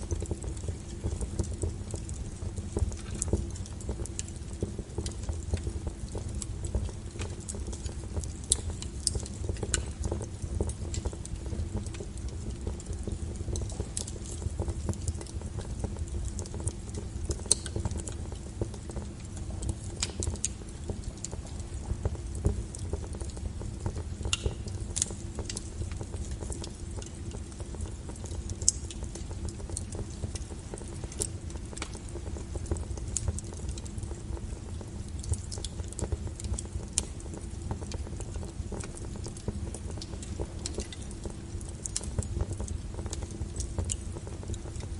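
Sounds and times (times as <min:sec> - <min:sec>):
low steady fire rumble: 0:00.0 - 0:44.9
wood fire crackling and popping: 0:00.0 - 0:44.9.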